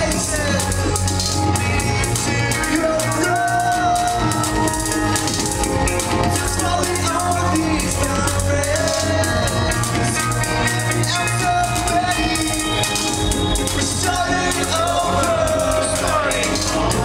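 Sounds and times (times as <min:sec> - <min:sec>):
live band playing loudly: 0:00.0 - 0:17.0.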